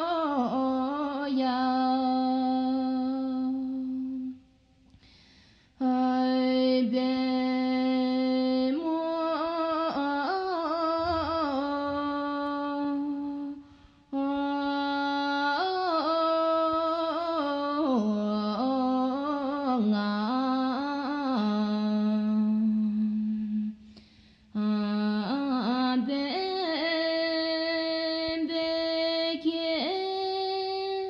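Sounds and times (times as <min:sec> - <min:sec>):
person singing unaccompanied: 0:00.0 - 0:04.4, 0:05.8 - 0:23.8, 0:24.6 - 0:31.0.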